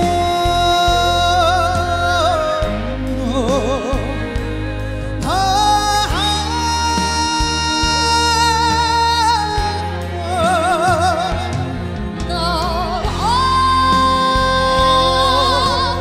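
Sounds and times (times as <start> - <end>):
duet singing with instruments: 0.0 - 16.0
man singing with vibrato: 0.0 - 16.0.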